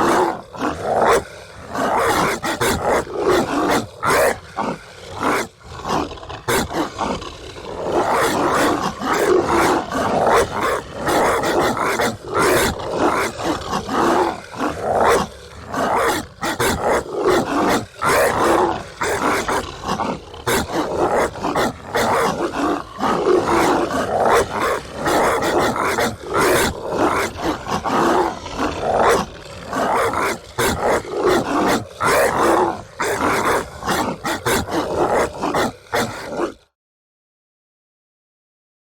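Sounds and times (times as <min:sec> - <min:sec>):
dogs barking loudly: 0:00.0 - 0:36.7.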